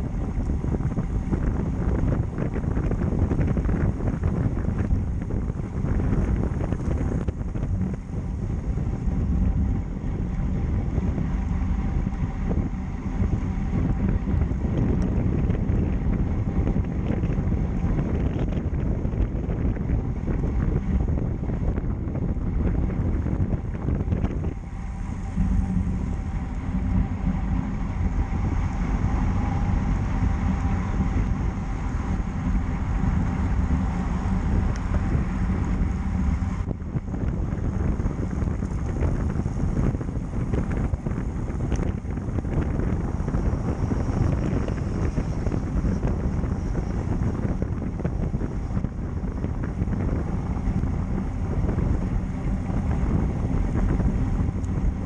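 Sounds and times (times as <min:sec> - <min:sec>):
faint steady hum: 0:00.0 - 0:55.0
wind rumbling on microphone: 0:00.0 - 0:55.0.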